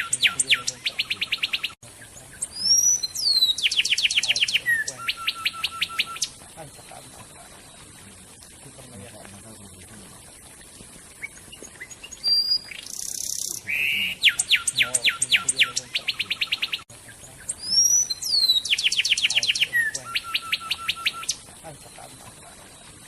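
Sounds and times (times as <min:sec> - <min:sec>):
songbird whistling song: 0:00.0 - 0:08.1, 0:10.4 - 0:23.0.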